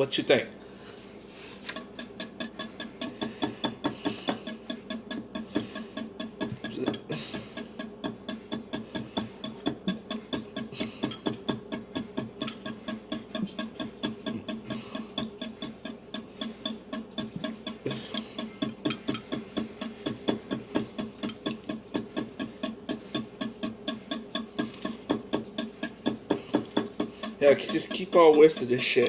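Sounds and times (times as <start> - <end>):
whisk tapping and scraping bowl: 1.6 - 29.0.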